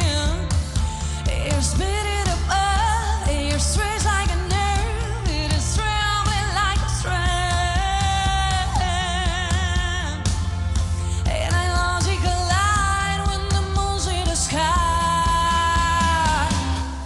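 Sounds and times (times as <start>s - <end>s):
pop song with singer and band: 0.0s - 17.0s.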